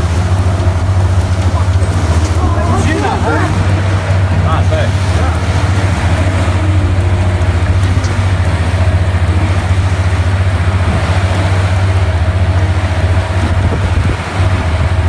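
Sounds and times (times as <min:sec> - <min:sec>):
boat engine humming: 0:00.0 - 0:15.0
water rushing: 0:00.0 - 0:15.0
wind: 0:00.0 - 0:15.0.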